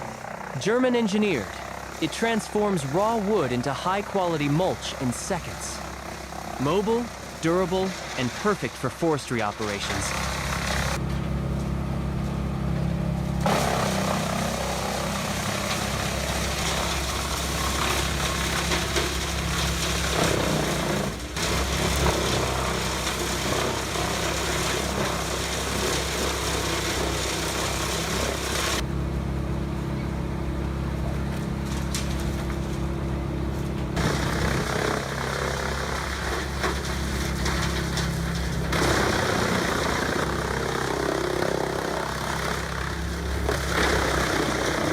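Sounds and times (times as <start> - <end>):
engine drone: 0.0 - 44.9
wood chipper chipping branches: 0.0 - 44.9.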